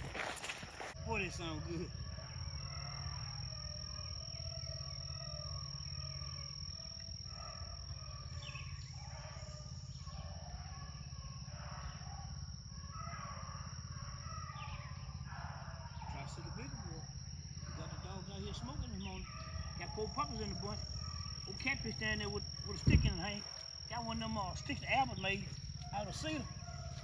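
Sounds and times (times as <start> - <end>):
distant hounds baying: 0.0 - 27.0.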